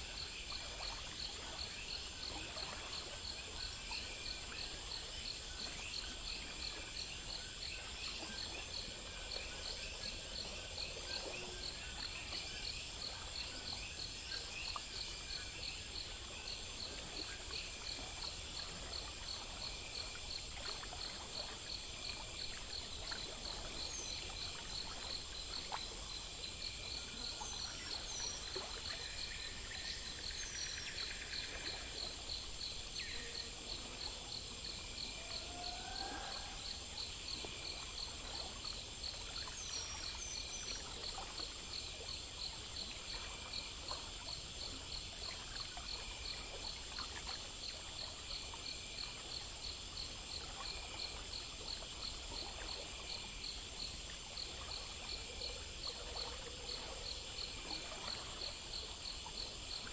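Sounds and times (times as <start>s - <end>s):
crickets chirping: 0.0s - 59.9s
high insect trill: 0.0s - 59.9s
higher insect chirps: 0.0s - 59.9s.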